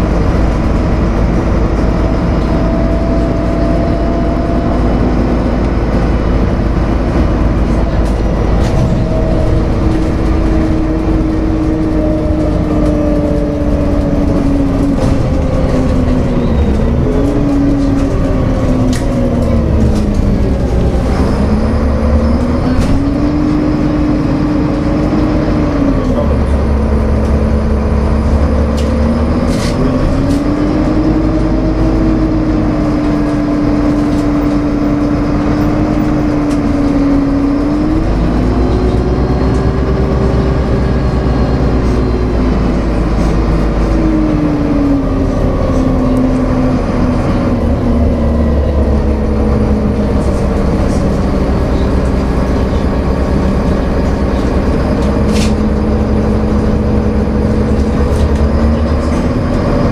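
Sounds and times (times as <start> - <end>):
bus engine drone: 0.0 - 59.9
road rumble: 0.0 - 59.9.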